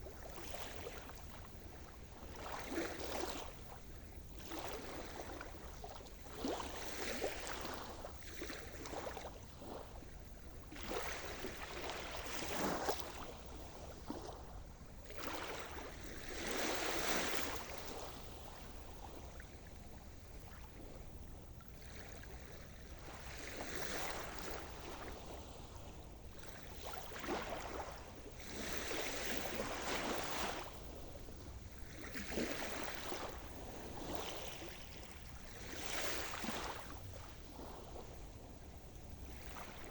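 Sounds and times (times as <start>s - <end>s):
waves breaking on shore: 0.0s - 14.3s, 15.0s - 21.0s, 21.8s - 39.9s.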